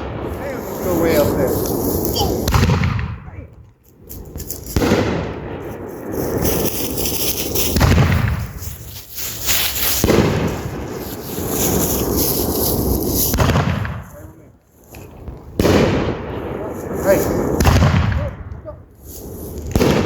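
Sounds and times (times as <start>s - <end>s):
heavy firework booms: 0.0s - 3.6s, 4.2s - 12.1s, 12.8s - 20.0s
fireworks bursting and crackling: 0.0s - 20.0s.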